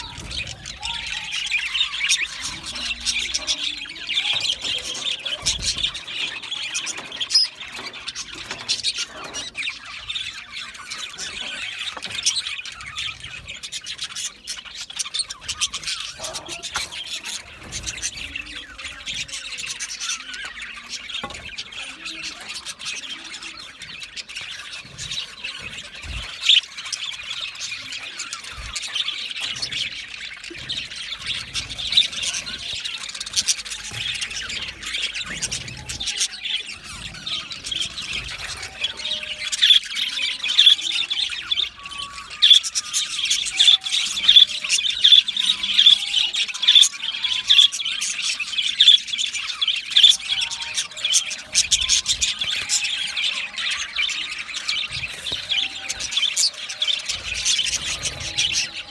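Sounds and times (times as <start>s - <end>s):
budgerigars chattering: 0.0s - 58.9s.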